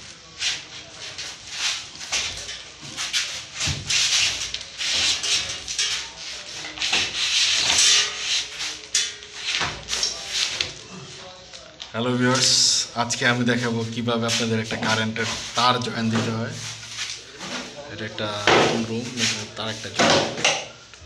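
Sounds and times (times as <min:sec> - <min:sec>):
hands scraping ceiling insulation: 0:00.0 - 0:10.8, 0:12.3 - 0:20.6.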